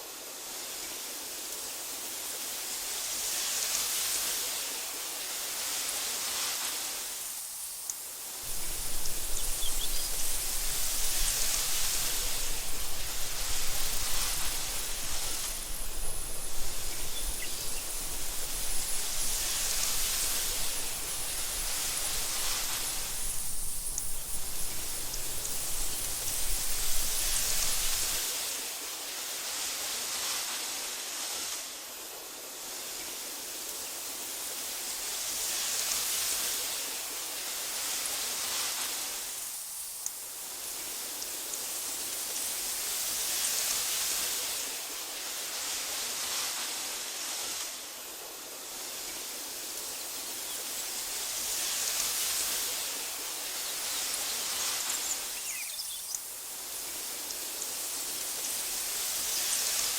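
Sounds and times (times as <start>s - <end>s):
wind rustling through grass: 0.0s - 59.9s.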